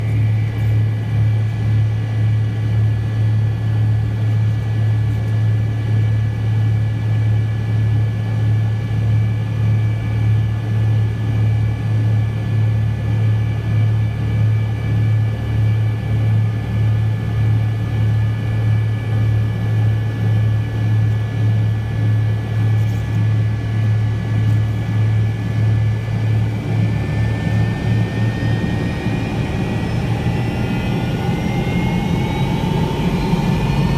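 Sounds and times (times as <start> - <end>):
jet engine hum in cabin: 0.0 - 33.9
jet engine whine: 0.0 - 33.9.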